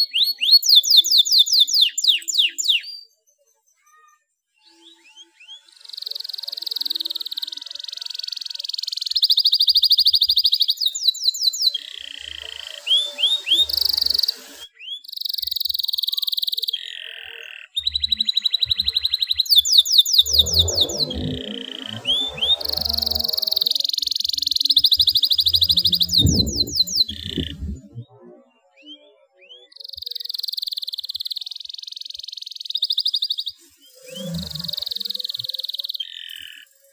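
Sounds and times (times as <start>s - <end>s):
canary singing trilled song: 0.0s - 28.1s, 28.8s - 36.8s.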